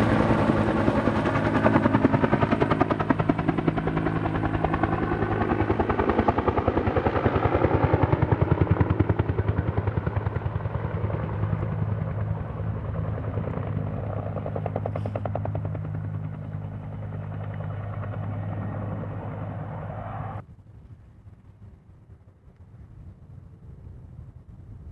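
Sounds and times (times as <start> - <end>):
helicopter engine drone: 0.0 - 20.4
helicopter rotor blades pulsing: 0.0 - 20.4.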